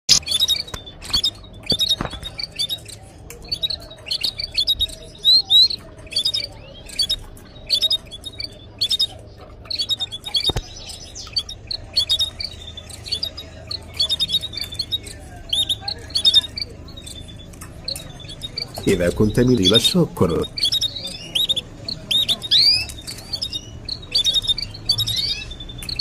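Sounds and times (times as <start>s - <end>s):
sharp clicks: 0.1s - 19.0s, 19.7s - 26.0s
canaries chirping: 0.1s - 26.0s
upward-sliding bird calls: 0.1s - 26.0s.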